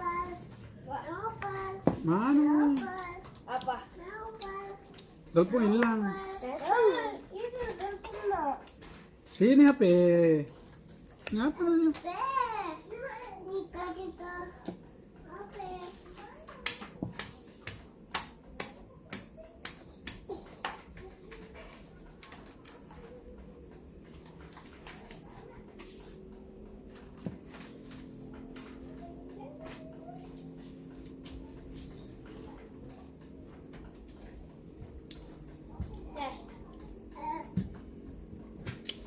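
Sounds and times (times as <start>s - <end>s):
crickets trilling: 0.0s - 39.0s.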